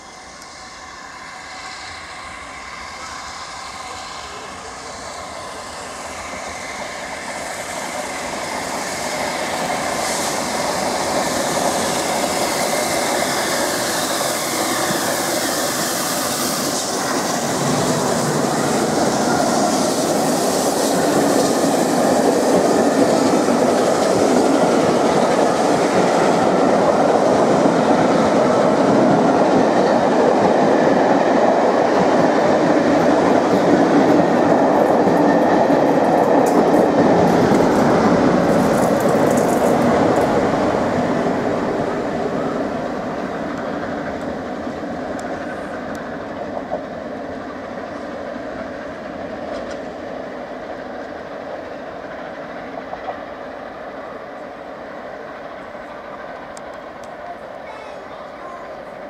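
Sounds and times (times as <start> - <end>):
train wheels clattering on rails: 5.8 - 58.9.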